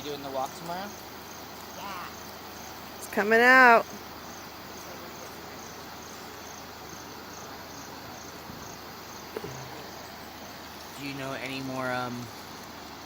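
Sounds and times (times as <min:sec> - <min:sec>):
insects chirping: 0:00.0 - 0:13.0
steady hiss: 0:00.0 - 0:13.0.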